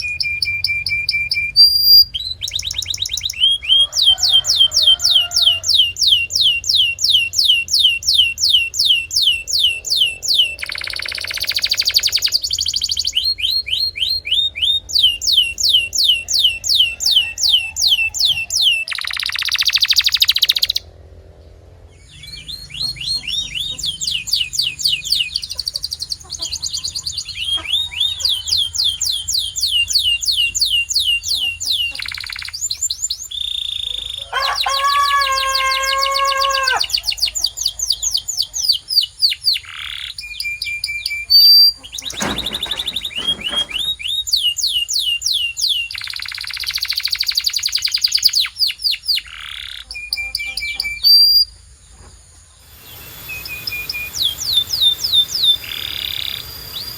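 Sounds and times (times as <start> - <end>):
canary singing trills: 0.0 - 20.9, 22.0 - 51.7, 52.6 - 56.9.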